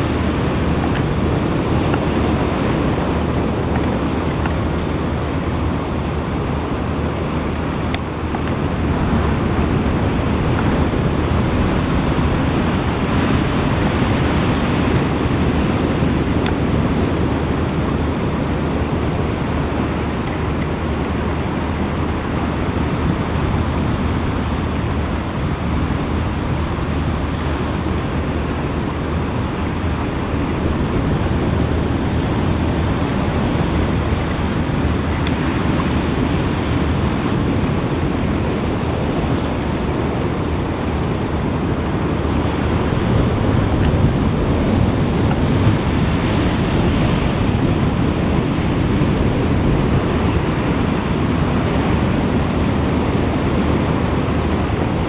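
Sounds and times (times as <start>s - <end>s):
open sea water rushing: 0.0s - 55.0s
wind: 0.0s - 55.0s.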